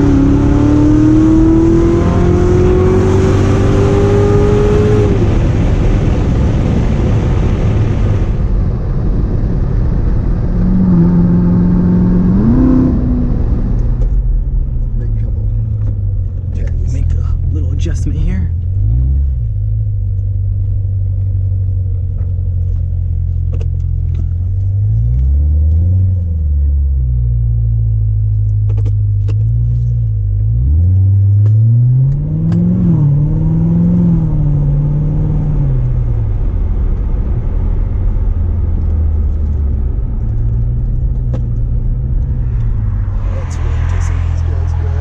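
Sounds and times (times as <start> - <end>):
car engine revving while driving: 0.0 - 45.0.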